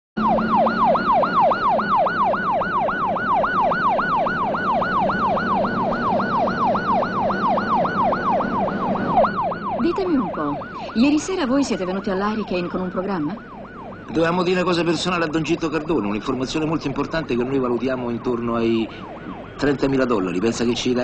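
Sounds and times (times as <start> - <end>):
ambulance siren yelp: 0.2 - 21.0.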